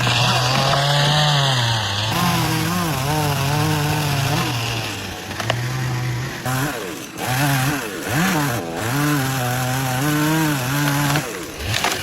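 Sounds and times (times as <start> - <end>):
chainsaw engine cutting: 0.0 - 12.0.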